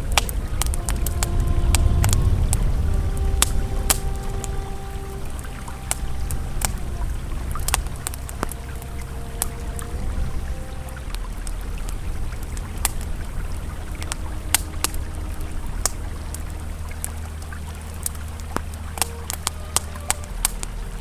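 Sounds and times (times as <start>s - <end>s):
campfire crackling and popping: 0.0s - 21.0s
river flowing: 0.0s - 21.0s.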